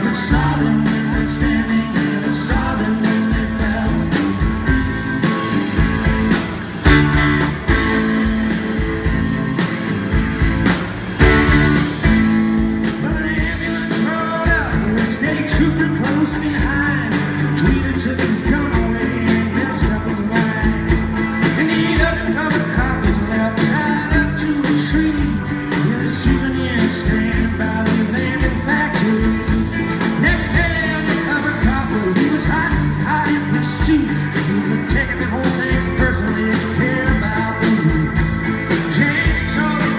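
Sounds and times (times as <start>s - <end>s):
man singing lead vocal: 0.0s - 5.0s, 12.8s - 39.9s
live rock band playing: 0.0s - 39.9s.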